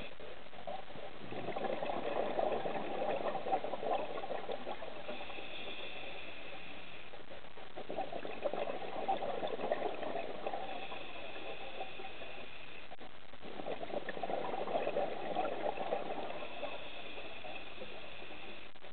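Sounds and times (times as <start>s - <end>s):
scuba regulator exhale bubbles: 1.2s - 6.8s, 7.9s - 12.5s, 13.5s - 18.6s.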